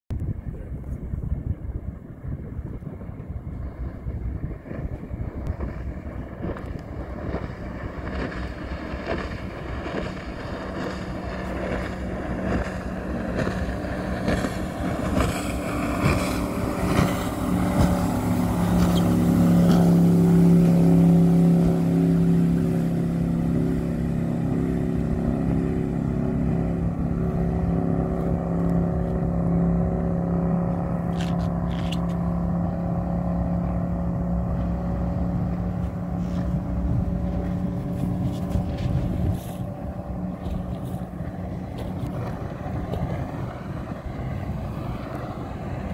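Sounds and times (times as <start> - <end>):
motorboat engine droning: 0.1 - 45.9.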